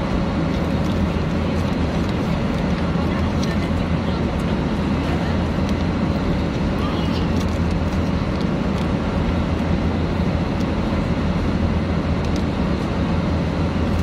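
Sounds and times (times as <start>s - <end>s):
airliner cabin drone in flight: 0.0s - 14.0s.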